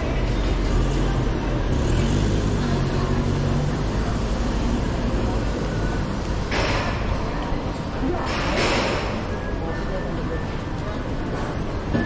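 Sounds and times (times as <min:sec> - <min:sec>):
busy street noise: 0:00.0 - 0:12.0
vehicle engine hum: 0:00.0 - 0:12.0.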